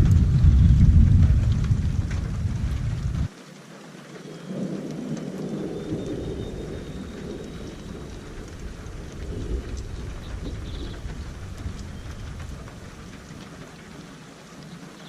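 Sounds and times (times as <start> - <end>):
thunder rolling: 0.0 - 3.3, 4.5 - 14.1
rain falling: 0.0 - 15.0.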